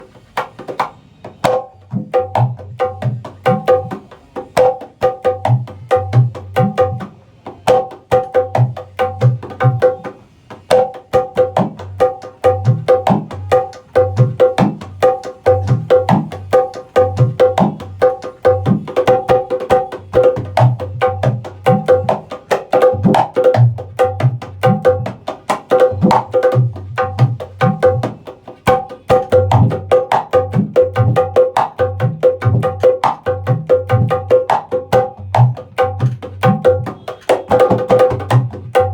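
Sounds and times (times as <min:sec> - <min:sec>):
dholak drum played by hand: 0:00.0 - 0:38.9.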